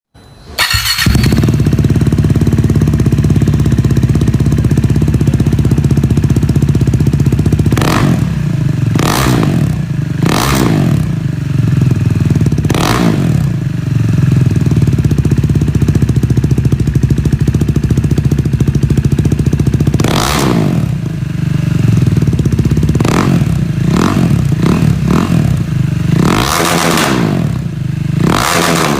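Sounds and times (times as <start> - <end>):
motorcycle engine idling and revving: 0.4 - 28.9.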